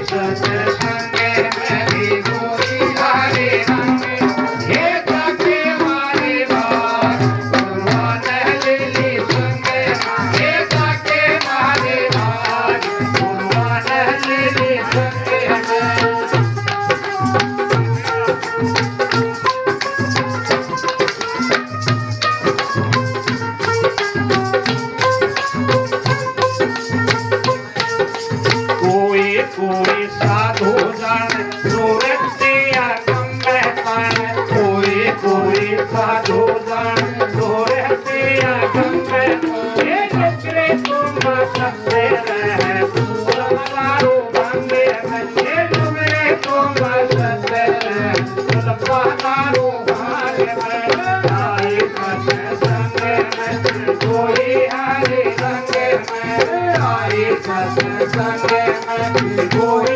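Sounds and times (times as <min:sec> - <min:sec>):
hand drum beats: 0:00.0 - 0:59.9
shaken rattling percussion: 0:00.0 - 0:59.9.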